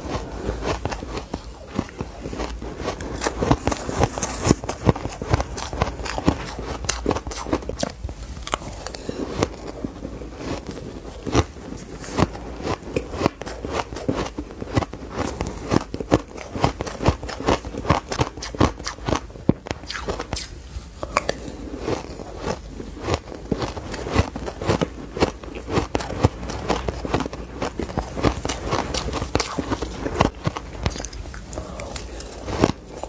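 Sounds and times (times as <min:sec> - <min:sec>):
crushed ice being chewed: 0:00.0 - 0:33.0.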